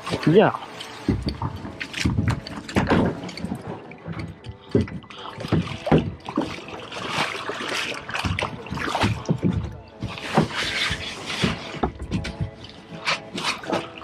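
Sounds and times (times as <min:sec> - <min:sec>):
paddle splashing water: 0:00.0 - 0:14.0.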